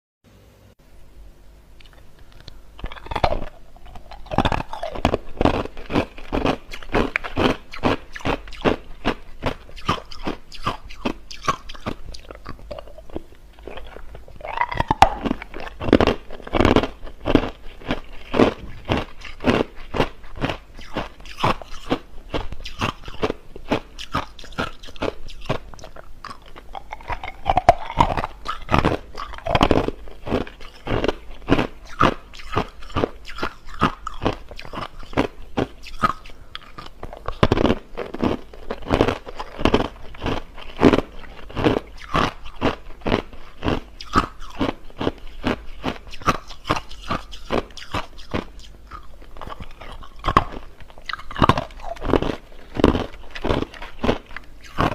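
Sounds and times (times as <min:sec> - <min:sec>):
person chewing crushed ice: 0:01.8 - 0:54.9.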